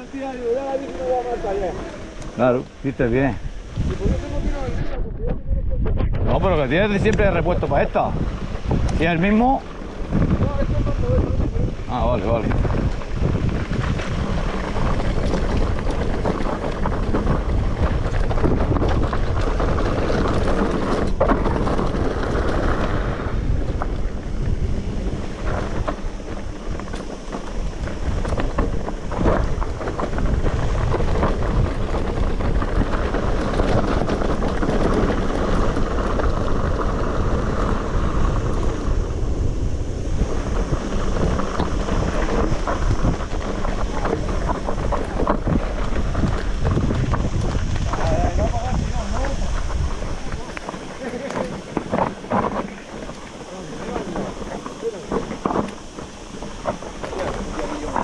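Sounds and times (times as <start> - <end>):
bike tyres rolling on gravel: 0.0 - 58.0
wind buffeting microphone: 0.0 - 58.0.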